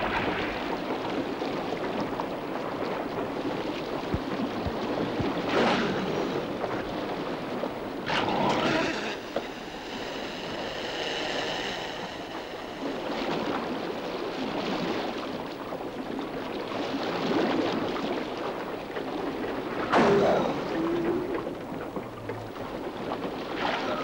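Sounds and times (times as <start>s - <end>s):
sea water splashing around boats: 0.0s - 24.0s
wind: 0.0s - 24.0s.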